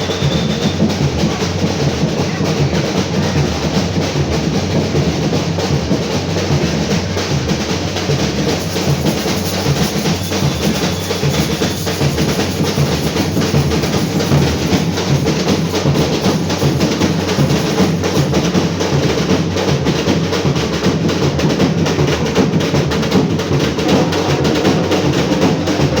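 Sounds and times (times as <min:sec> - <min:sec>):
deep bass drums: 0:00.0 - 0:26.0
snare drums rattling: 0:00.0 - 0:26.0.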